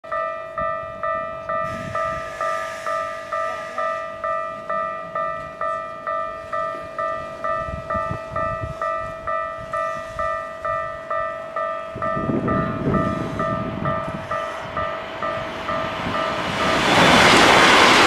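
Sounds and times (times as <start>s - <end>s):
level crossing alarm ringing: 0.1s - 17.0s
train running noise: 0.1s - 18.0s.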